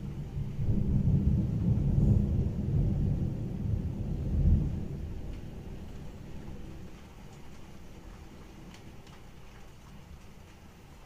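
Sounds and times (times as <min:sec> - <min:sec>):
thunder rumbling: 0:00.0 - 0:09.0.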